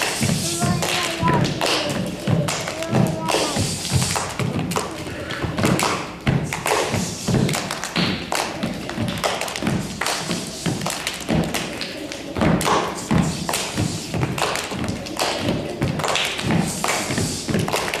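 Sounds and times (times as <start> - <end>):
children clapping hands: 0.0 - 18.0
children stamping on wooden stage: 0.0 - 18.0.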